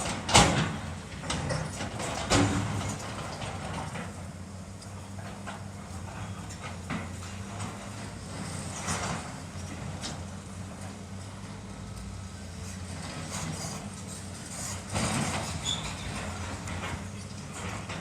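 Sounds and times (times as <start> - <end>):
diesel engine under load: 0.0 - 18.0.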